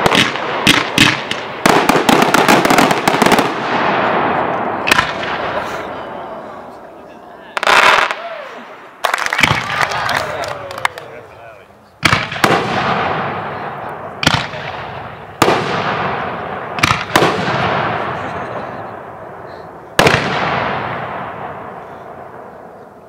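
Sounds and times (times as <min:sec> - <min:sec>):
fireworks bangs with echo: 0:00.0 - 0:06.8, 0:07.5 - 0:11.2, 0:12.0 - 0:23.0.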